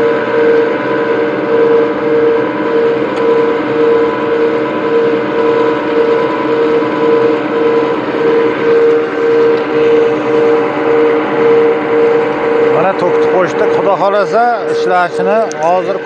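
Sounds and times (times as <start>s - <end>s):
electric motors and gearboxes humming: 0.0s - 16.0s.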